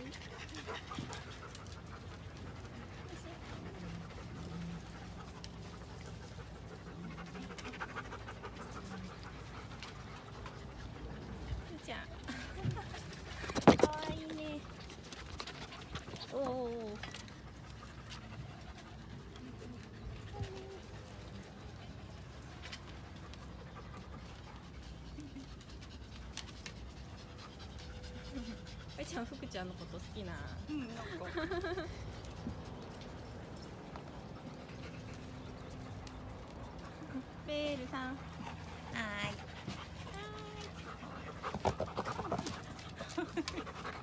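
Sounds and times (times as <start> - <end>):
dog panting: 0.0 - 44.0.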